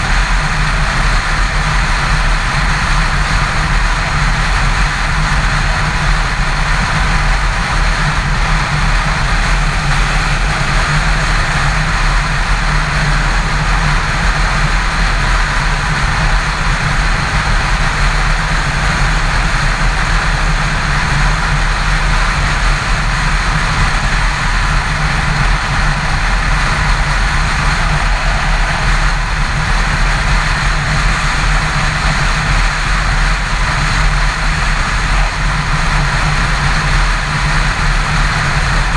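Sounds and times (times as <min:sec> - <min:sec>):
motorcycle engine droning: 0:00.0 - 0:38.9
wind rush over microphone: 0:00.0 - 0:38.9.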